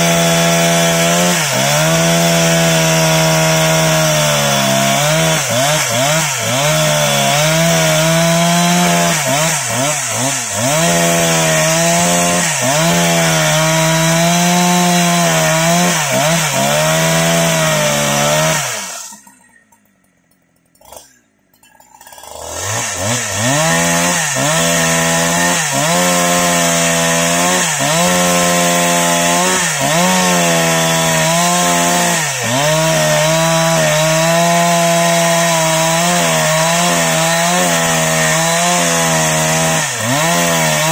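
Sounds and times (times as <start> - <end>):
chainsaw cutting through log: 0.0 - 19.4, 20.8 - 21.2, 22.0 - 40.9.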